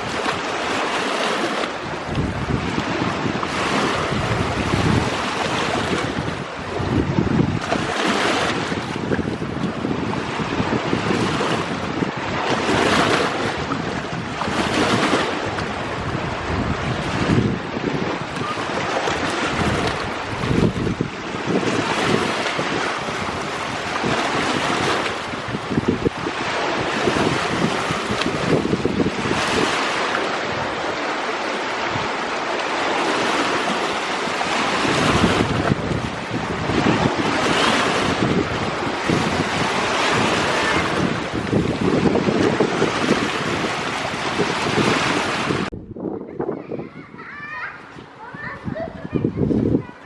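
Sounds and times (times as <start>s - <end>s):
sea waves washing in: 0.0s - 45.8s
wind buffeting microphone: 0.0s - 50.0s.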